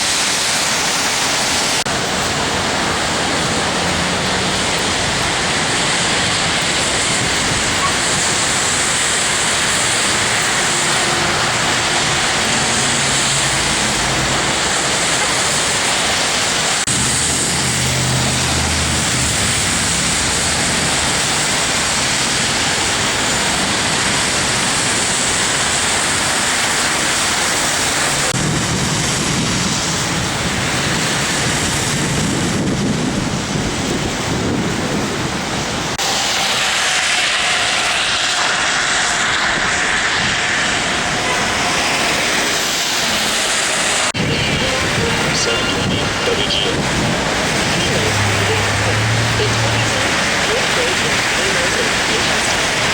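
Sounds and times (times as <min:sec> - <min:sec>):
storm wind roaring: 0:00.0 - 0:52.9
wind gusts rumbling on microphone: 0:00.0 - 0:52.9.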